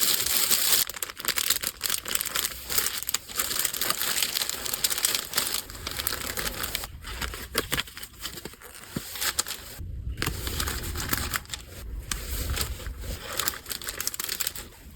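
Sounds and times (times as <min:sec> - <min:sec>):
packaging crinkling: 0:00.0 - 0:14.9.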